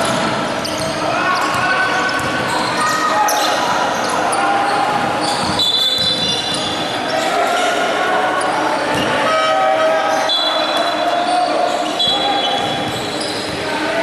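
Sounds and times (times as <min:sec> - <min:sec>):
shoe squeaks: 0:00.0 - 0:13.7
people calling out: 0:00.6 - 0:14.0.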